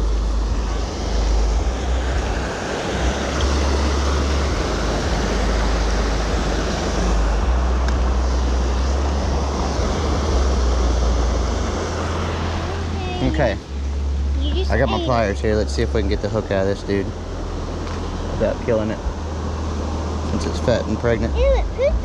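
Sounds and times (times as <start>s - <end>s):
churning white water: 0.0s - 22.0s.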